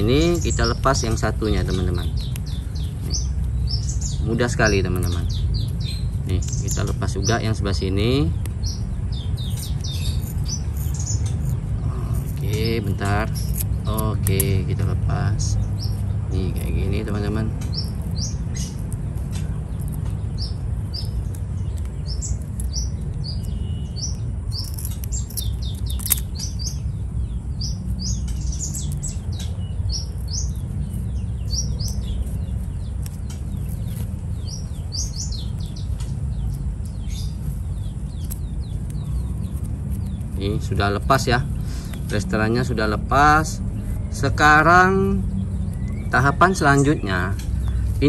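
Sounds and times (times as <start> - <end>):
bird chirping: 0.0 - 48.0.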